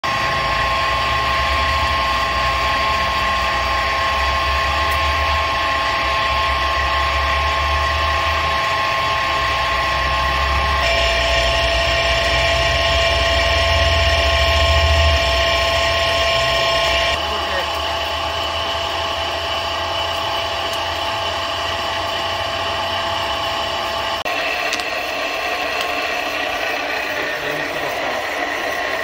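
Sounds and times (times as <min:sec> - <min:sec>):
low hum: 0:00.0 - 0:28.4
drill press whine: 0:00.0 - 0:29.0.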